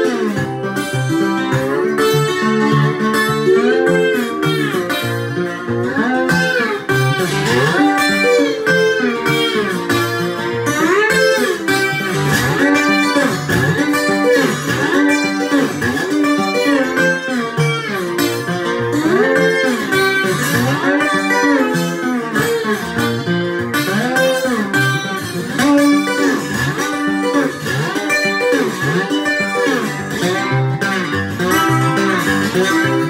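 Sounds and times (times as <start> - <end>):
fingerstyle acoustic guitar: 0.0 - 33.0.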